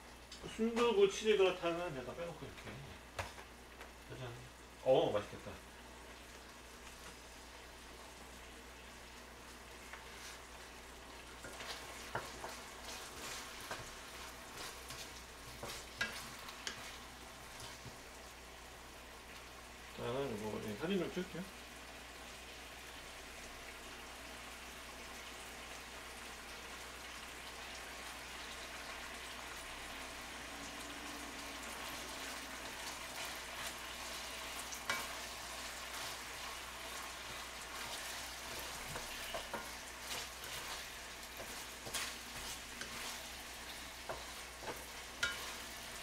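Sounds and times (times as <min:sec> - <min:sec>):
food sizzling in a frying pan: 0:00.0 - 0:46.0.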